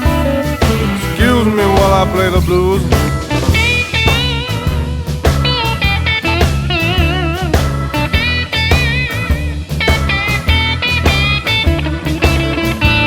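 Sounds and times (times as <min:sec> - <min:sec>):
bass and drum rhythm: 0:00.0 - 0:13.0
lead guitar with vibrato: 0:00.0 - 0:13.0.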